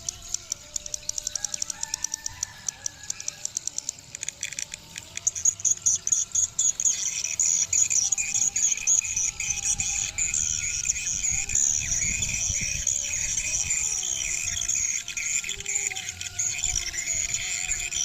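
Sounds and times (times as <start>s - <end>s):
swiftlets twittering and clicking: 0.0s - 18.0s.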